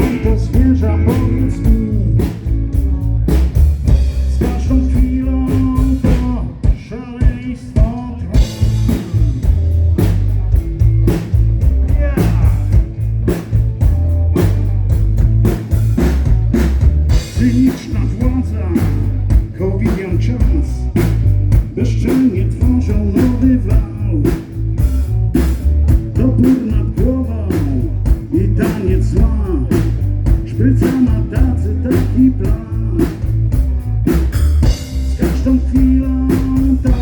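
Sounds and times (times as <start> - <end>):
drum kit beat: 0.0 - 37.0
rock band playing: 0.0 - 37.0.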